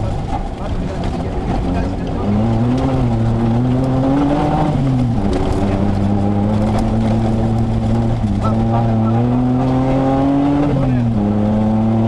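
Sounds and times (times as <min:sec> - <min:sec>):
car engine running under load: 0:00.0 - 0:12.0.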